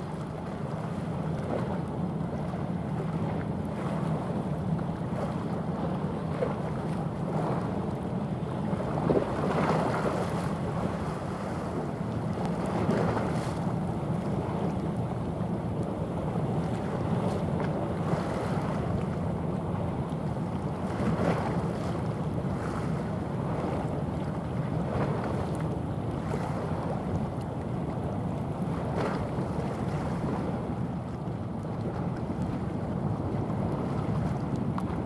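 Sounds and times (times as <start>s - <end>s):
bow wave washing along hull: 0.0s - 35.0s
ship engine low rumble: 0.0s - 35.0s.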